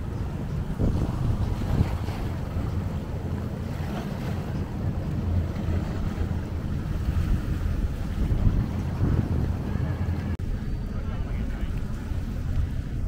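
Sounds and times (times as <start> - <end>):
choppy water: 0.0 - 13.0
wind buffeting microphone: 0.0 - 13.0.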